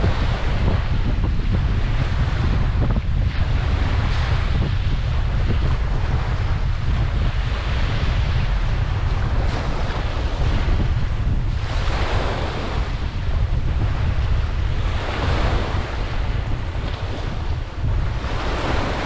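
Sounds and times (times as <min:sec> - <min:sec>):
ocean waves breaking on beach: 0:00.0 - 0:19.0
wind rumble on microphone: 0:00.0 - 0:19.0.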